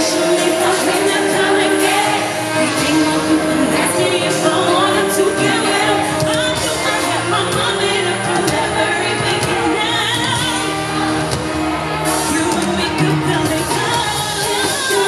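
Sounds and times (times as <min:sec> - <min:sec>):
woman singing: 0:00.0 - 0:11.4, 0:12.0 - 0:15.0
live pop music over pa: 0:00.0 - 0:15.0.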